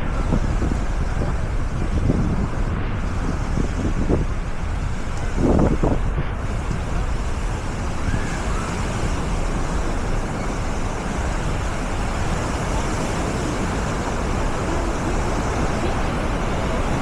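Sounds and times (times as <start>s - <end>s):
surf on a beach: 0.0s - 17.0s
wind on microphone: 0.0s - 17.0s.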